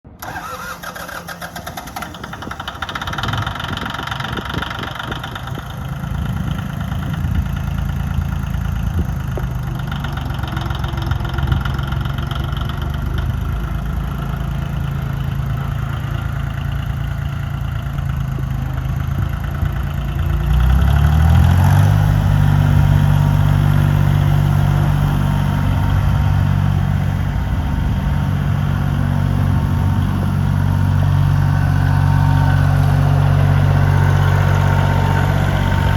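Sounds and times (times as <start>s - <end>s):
tractor diesel engine idling and revving: 0.0s - 35.9s.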